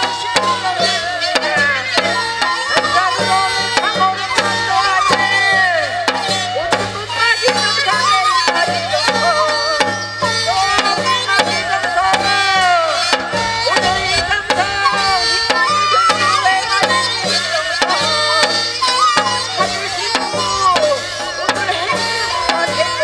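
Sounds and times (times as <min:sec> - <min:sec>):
drum beating quickly: 0:00.0 - 0:23.0
sliding melody: 0:00.0 - 0:23.0.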